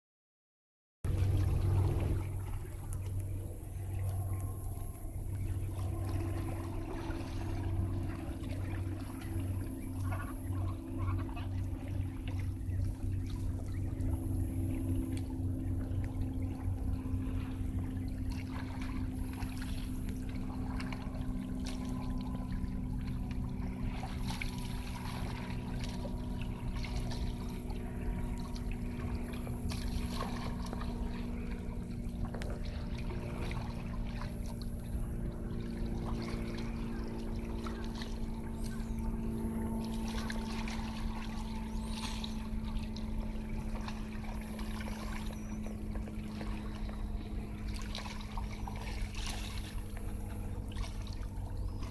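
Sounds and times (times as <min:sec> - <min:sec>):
engine hum: 0:01.1 - 0:51.9
water trickling and lapping: 0:01.1 - 0:51.9.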